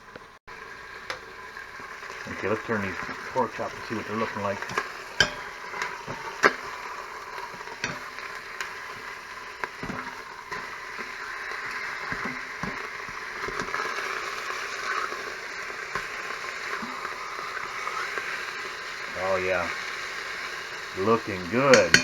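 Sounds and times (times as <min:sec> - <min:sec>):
pork chops sizzling in oil: 0:00.0 - 0:22.0.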